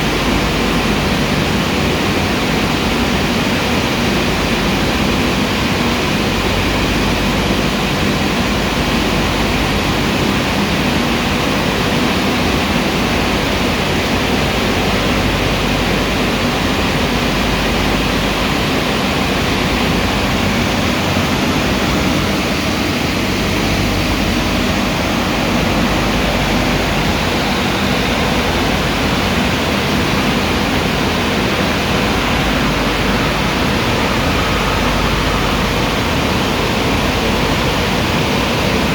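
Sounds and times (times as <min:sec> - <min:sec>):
car wash rushing noise: 0:00.0 - 0:38.9.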